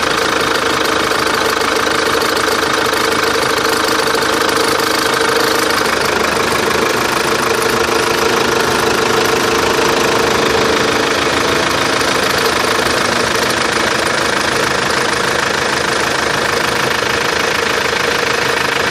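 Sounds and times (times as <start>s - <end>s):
car engine running: 0.0s - 18.9s
steady whining tone: 0.0s - 18.9s.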